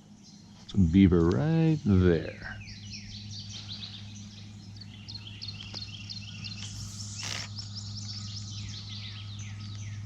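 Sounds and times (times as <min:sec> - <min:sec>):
songbirds chirping and singing: 0:00.0 - 0:10.0
steady low hum: 0:00.0 - 0:10.0.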